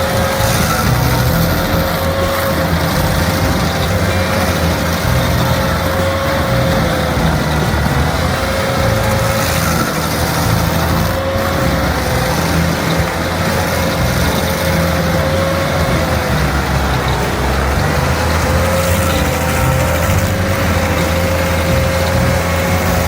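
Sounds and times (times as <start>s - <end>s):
heavy machine engine running: 0.0s - 23.0s
steady high whine: 0.0s - 23.0s.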